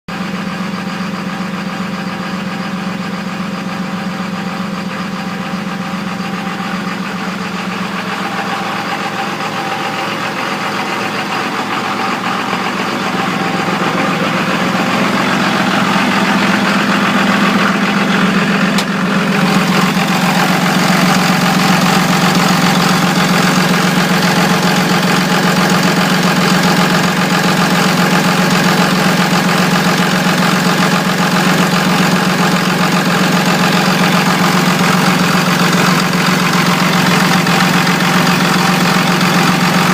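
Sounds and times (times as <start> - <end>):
diesel engine rough idle: 0.1 - 39.9.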